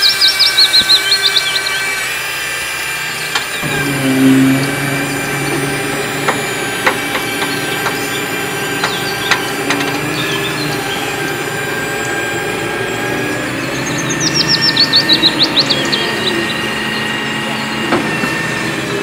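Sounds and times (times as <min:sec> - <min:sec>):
toy excavator whirring: 0:00.0 - 0:19.0
low hum: 0:03.0 - 0:19.0.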